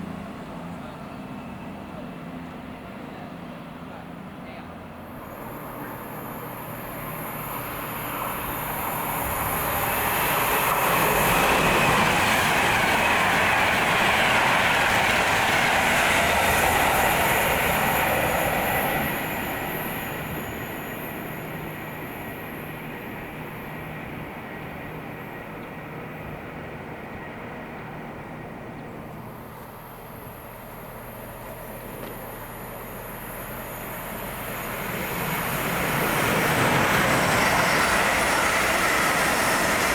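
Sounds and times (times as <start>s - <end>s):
train passing on rails: 0.0s - 39.9s.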